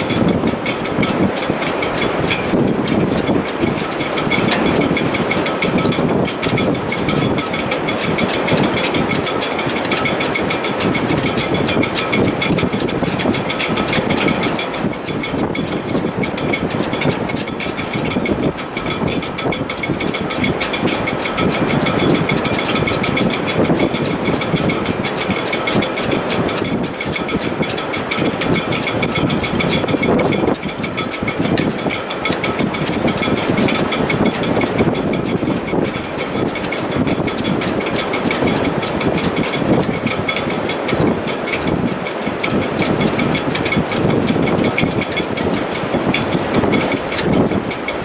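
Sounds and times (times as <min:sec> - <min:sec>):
wind rushing through rigging: 0:00.0 - 0:48.0.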